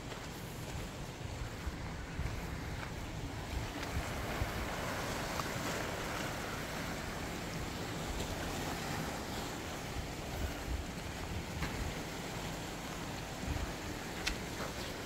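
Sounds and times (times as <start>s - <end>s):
wind buffeting microphone: 0.0s - 15.0s
sea washing against rocks: 1.2s - 15.0s.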